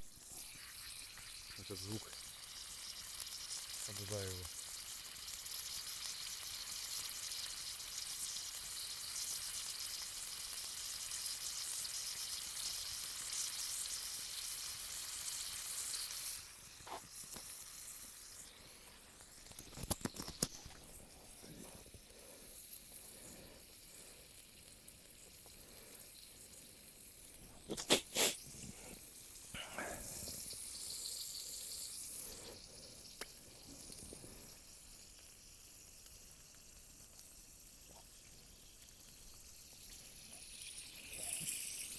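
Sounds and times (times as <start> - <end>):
food sizzling in a frying pan: 0.0 - 41.9.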